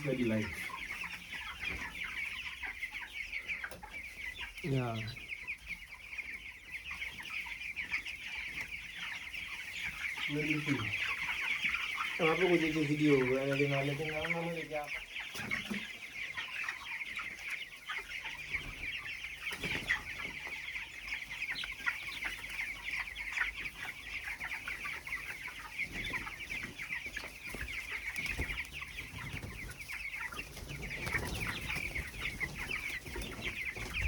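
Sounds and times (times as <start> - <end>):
chickens chirping and clucking: 0.0 - 34.0.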